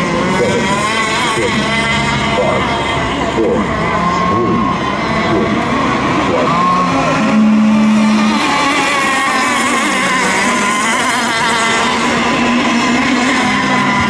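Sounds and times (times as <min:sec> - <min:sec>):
model boat engines racing: 0:00.0 - 0:14.0.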